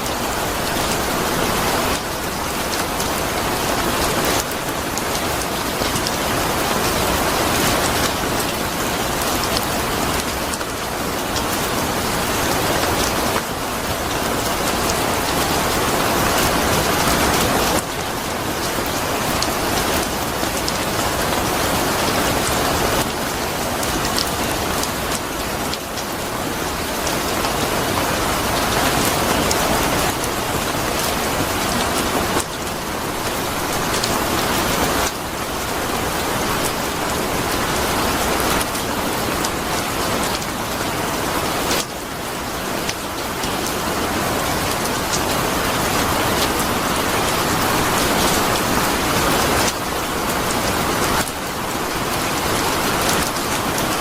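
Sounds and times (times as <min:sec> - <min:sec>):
rain falling on a surface: 0:00.0 - 0:54.0.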